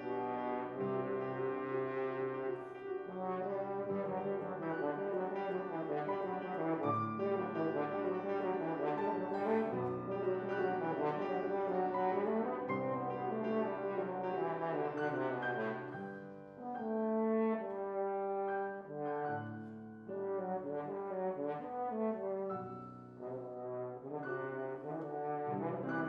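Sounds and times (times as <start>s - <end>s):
french horn sustained low notes: 0.0s - 16.0s, 16.6s - 19.2s, 23.2s - 26.0s
piano playing: 0.0s - 26.0s.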